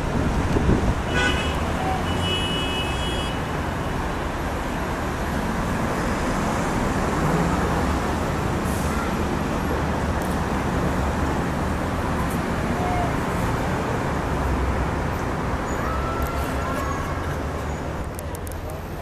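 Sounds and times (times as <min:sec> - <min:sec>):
busy road traffic: 0:00.0 - 0:19.0.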